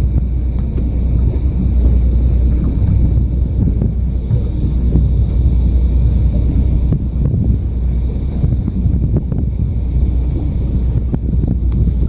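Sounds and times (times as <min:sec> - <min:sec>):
steady low rumble: 0:00.0 - 0:12.0
wind buffeting microphone: 0:00.0 - 0:12.0.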